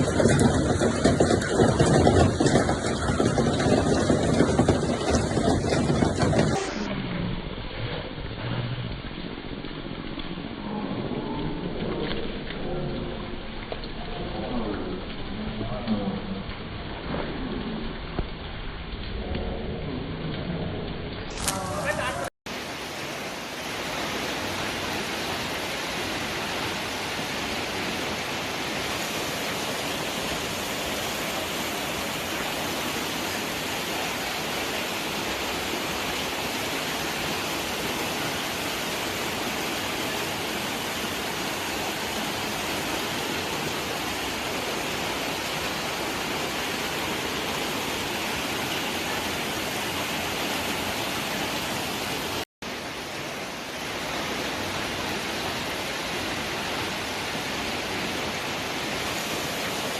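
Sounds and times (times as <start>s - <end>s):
heavy rain and hail: 0.0s - 59.9s.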